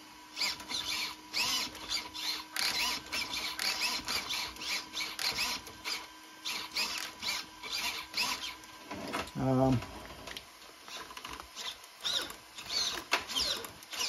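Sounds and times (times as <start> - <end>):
steering servo whining: 0.0 - 9.8, 10.8 - 14.0
cooling fan humming: 0.0 - 14.0.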